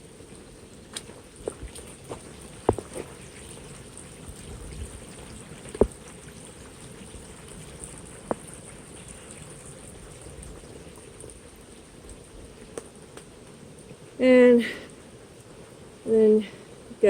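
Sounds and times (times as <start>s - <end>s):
water pouring down waterfall: 0.0s - 15.6s.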